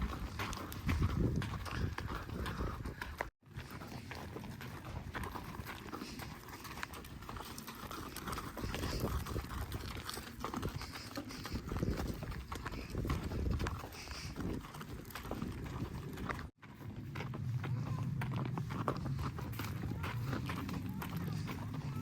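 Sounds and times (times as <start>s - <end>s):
horse hooves clip-clopping: 0.0s - 22.0s.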